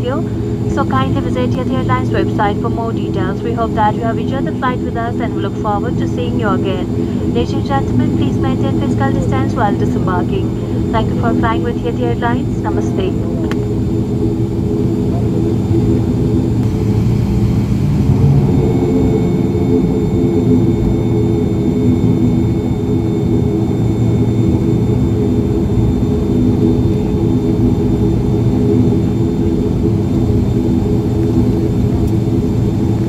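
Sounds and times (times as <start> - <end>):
faint high whine: 0.0 - 33.0
turboprop engines droning: 0.0 - 33.0.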